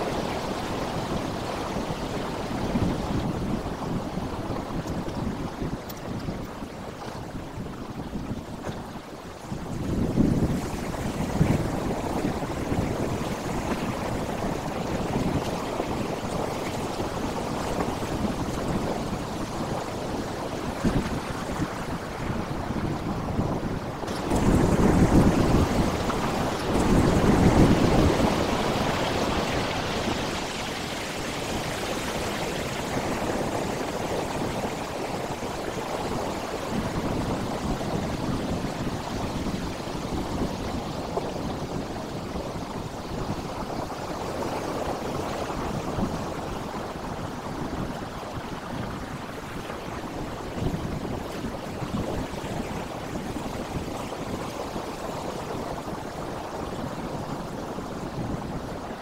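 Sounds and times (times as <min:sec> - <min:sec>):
waves breaking on rocky shore: 0:00.0 - 0:59.0.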